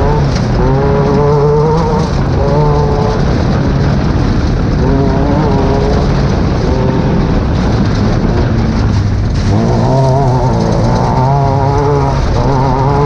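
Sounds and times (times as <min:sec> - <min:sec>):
race car engine running hard: 0:00.0 - 0:13.0
steady rush of noise: 0:00.0 - 0:13.0.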